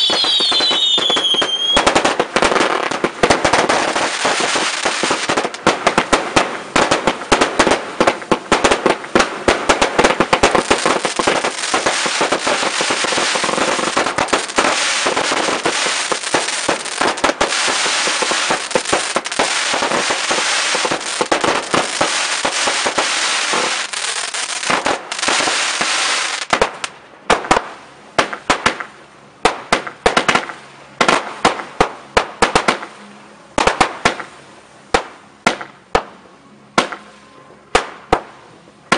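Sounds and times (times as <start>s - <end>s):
fireworks crackling and banging: 0.0s - 33.0s, 33.6s - 38.9s.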